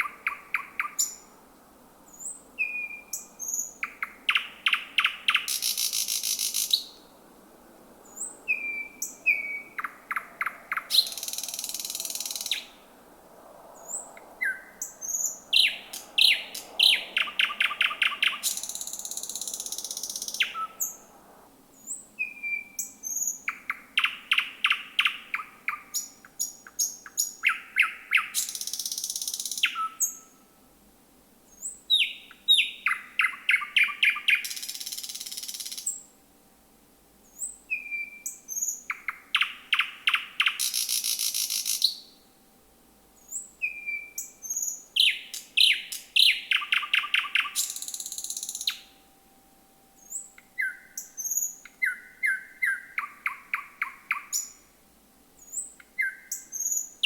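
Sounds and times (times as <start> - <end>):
nightingale singing: 0.0 - 1.4, 2.1 - 7.2, 8.0 - 13.0, 13.7 - 30.5, 31.5 - 36.2, 37.2 - 42.3, 43.2 - 57.0.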